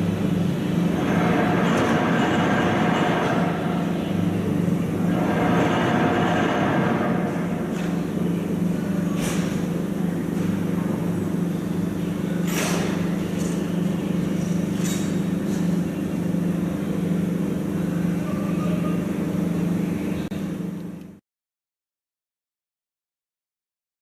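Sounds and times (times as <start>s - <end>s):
low machine hum: 0.0s - 21.2s.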